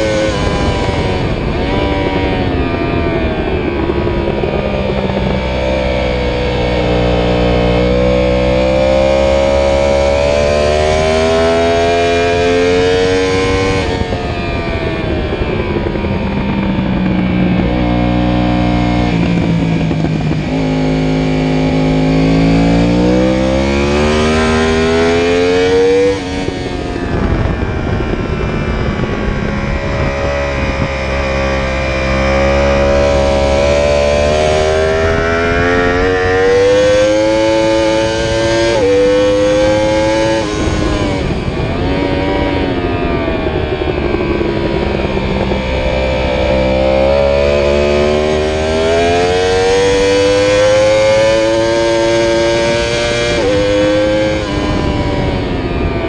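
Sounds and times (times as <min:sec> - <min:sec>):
motorcycle engine at full throttle: 0:00.0 - 0:56.0
wind rush: 0:00.0 - 0:56.0.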